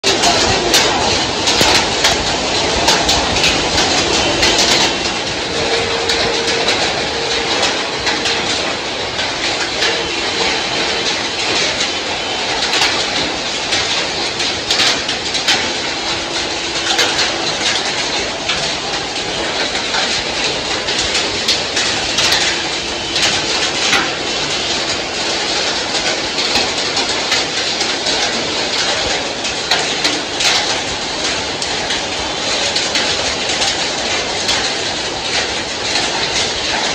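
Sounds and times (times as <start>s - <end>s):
hailstones ticking: 0.0s - 36.9s
heavy rain hissing: 0.0s - 36.9s.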